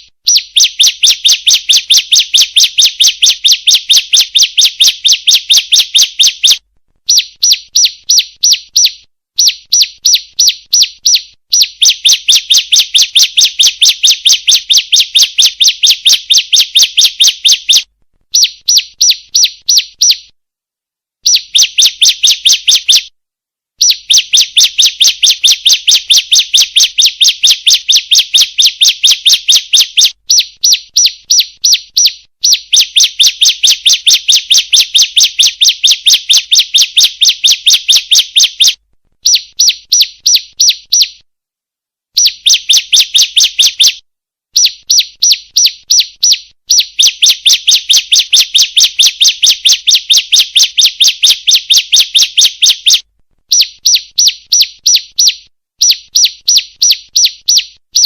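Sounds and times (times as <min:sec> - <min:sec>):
bird sharp high chirps: 0:00.0 - 0:20.3, 0:21.2 - 0:23.1, 0:23.8 - 0:41.2, 0:42.2 - 0:58.0.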